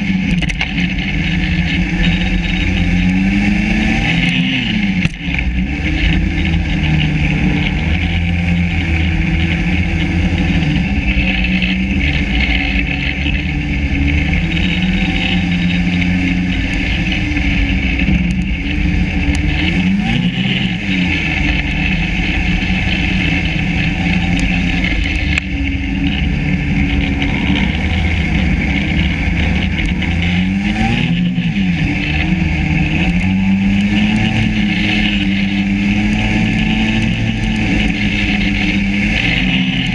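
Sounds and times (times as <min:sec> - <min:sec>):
snowmobile two-stroke engine running: 0:00.0 - 0:39.9.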